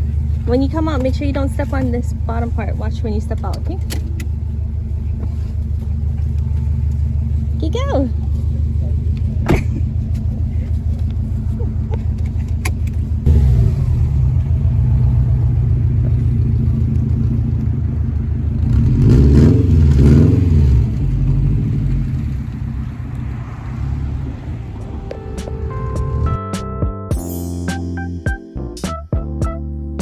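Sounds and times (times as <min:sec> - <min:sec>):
car engine droning: 0:00.0 - 0:26.6.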